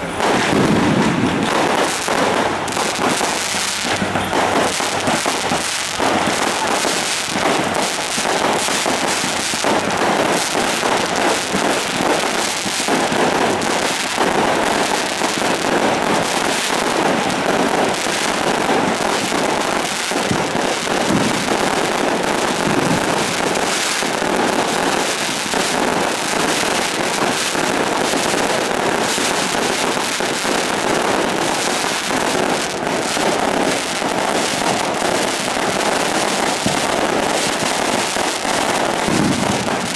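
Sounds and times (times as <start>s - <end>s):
firecrackers and fireworks crackling: 0.0s - 39.9s.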